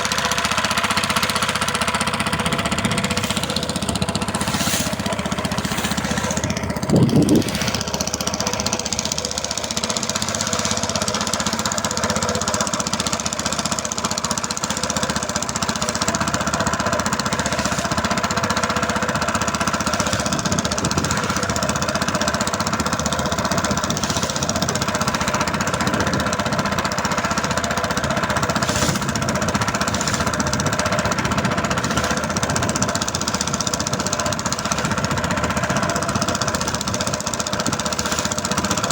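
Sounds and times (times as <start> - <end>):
boat engine knocking: 0.0 - 38.9.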